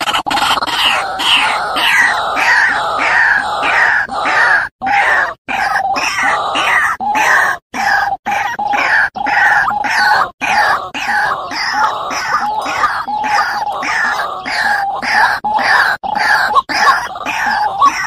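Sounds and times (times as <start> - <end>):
waterhens croaking calls: 0.0 - 18.0.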